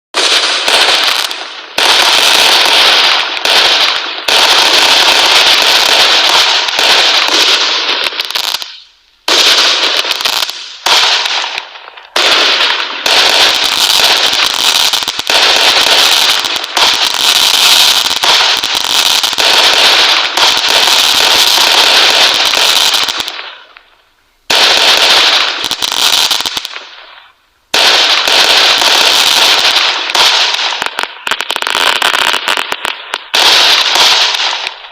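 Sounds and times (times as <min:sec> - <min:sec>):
fireworks crackling: 0:00.1 - 0:34.9.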